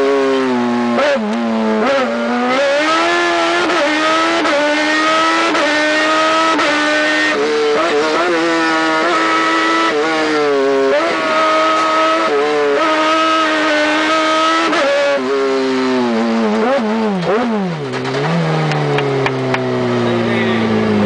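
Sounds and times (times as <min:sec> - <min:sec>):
engine revving hard: 0:00.0 - 0:21.0.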